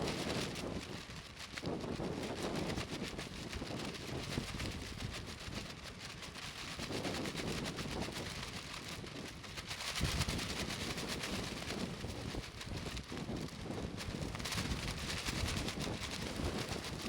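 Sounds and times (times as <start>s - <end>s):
plastic raincoats flapping in wind: 0.0s - 17.0s
wind buffeting microphone: 0.0s - 17.0s.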